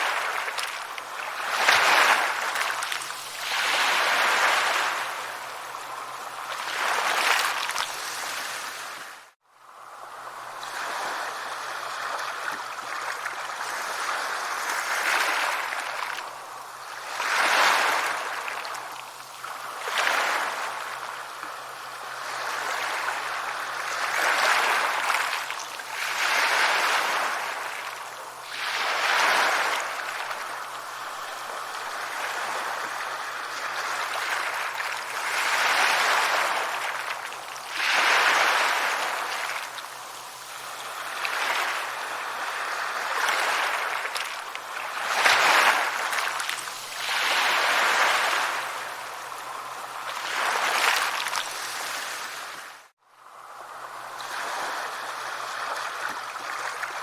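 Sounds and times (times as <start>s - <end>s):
sea waves breaking on a beach: 0.0s - 57.0s.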